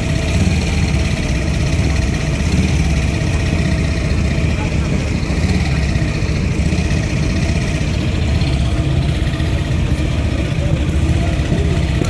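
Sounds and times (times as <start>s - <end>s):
truck engines rumbling: 0.0s - 12.0s.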